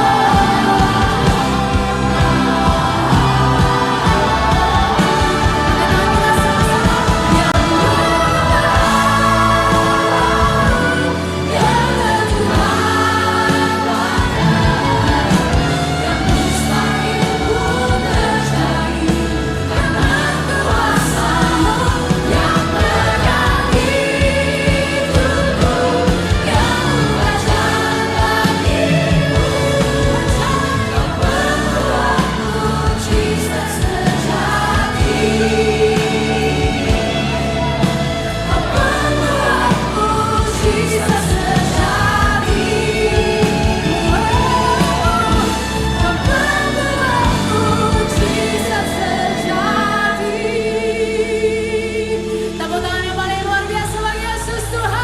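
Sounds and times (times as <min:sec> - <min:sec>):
singers singing: 0:00.0 - 0:55.0
worship song with band: 0:00.0 - 0:55.0.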